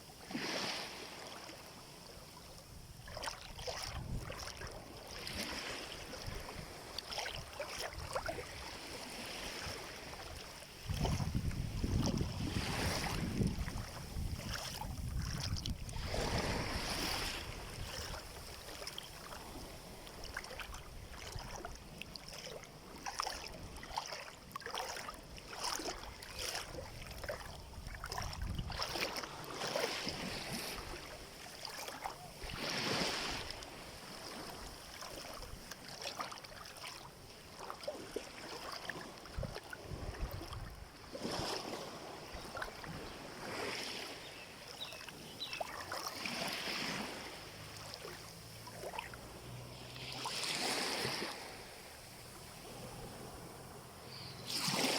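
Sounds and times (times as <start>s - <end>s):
small waves lapping: 0.0s - 54.9s
water splashes: 0.2s - 2.1s, 3.0s - 54.9s.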